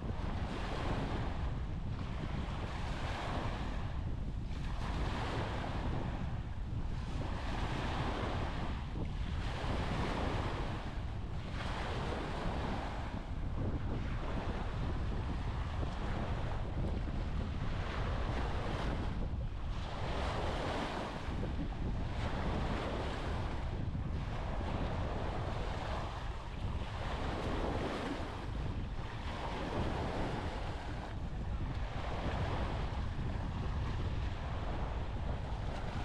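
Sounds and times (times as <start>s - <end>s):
small waves breaking on sand: 0.0s - 36.0s
wind buffeting microphone: 0.0s - 36.0s.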